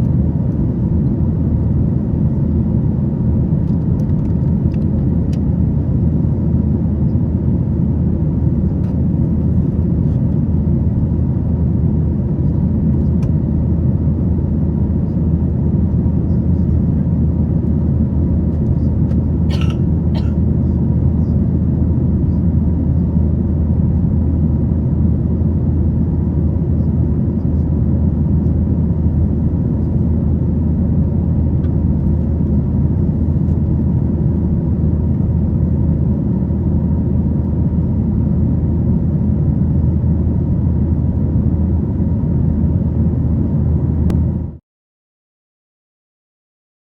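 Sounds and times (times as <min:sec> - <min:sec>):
aircraft cabin engine rumble: 0:00.0 - 0:44.6.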